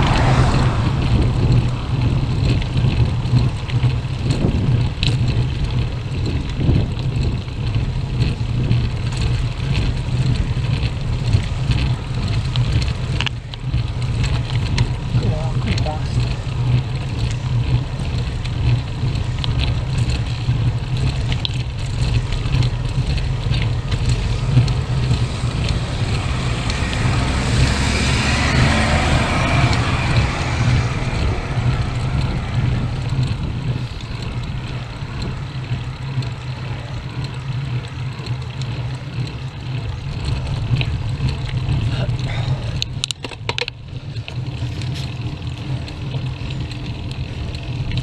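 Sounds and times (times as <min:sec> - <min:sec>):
car passing: 0:00.0 - 0:48.0
wind rumble on microphone: 0:00.0 - 0:48.0.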